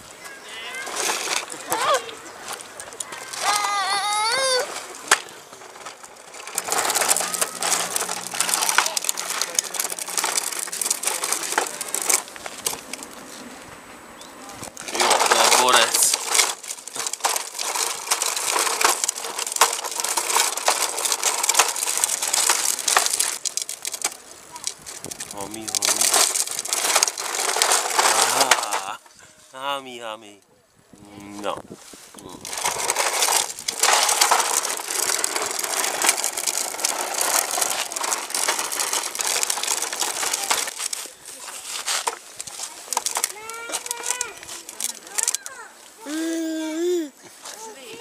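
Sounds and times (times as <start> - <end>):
plastic wheels rolling on pavement: 0.0 - 48.0.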